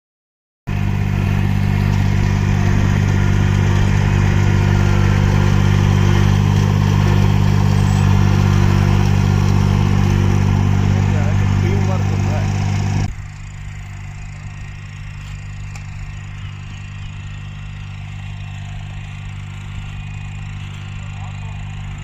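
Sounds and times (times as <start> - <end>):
farm machine engine droning: 0.7 - 22.0.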